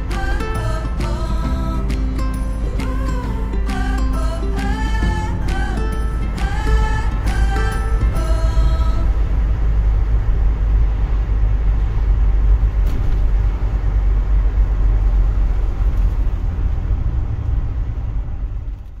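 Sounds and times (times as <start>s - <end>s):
engine and road noise in cabin: 0.0s - 19.0s.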